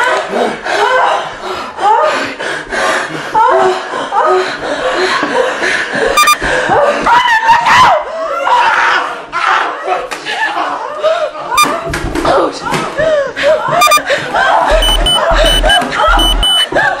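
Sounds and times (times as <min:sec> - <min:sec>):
human cries and breathy vocals: 0:00.0 - 0:11.6, 0:12.7 - 0:17.0.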